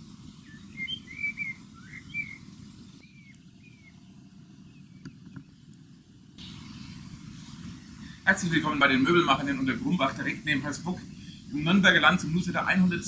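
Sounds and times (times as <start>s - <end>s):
low background rumble: 0.0s - 13.0s
small bird chirping: 0.2s - 12.4s.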